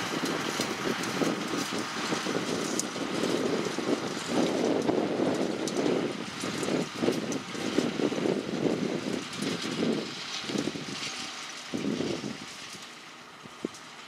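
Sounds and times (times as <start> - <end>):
tractor running: 0.0 - 14.0.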